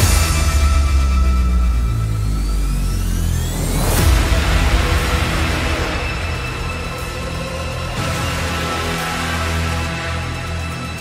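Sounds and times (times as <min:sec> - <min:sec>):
held synth bass: 0:00.0 - 0:11.0
loud full music passage: 0:00.0 - 0:11.0.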